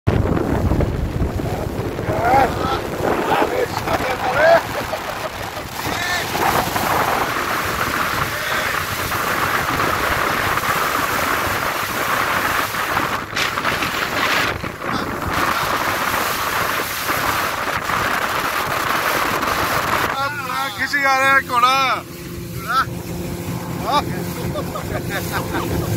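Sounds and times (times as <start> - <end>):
speedboat engine and wake: 0.1 - 25.9
wind on microphone: 0.1 - 25.9.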